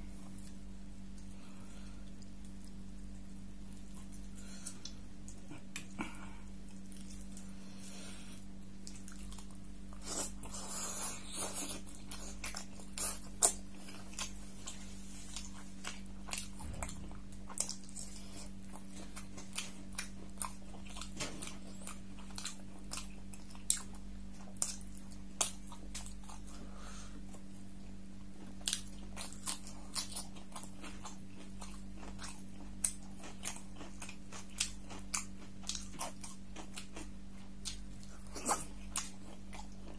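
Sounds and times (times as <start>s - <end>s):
steady low hum: 0.0s - 39.9s
chewing and biting food: 0.2s - 7.8s, 8.4s - 39.9s.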